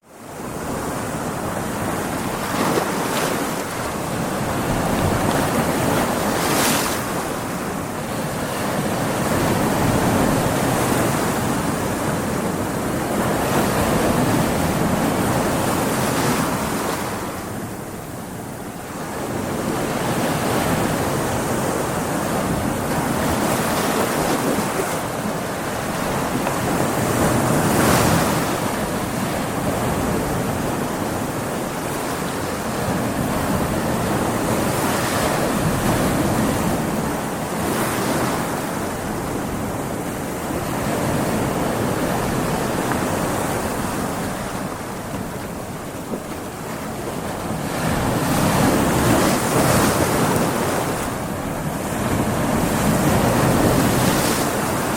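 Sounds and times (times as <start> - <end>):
heavy waves breaking: 0.0 - 54.9
wind: 0.0 - 54.9.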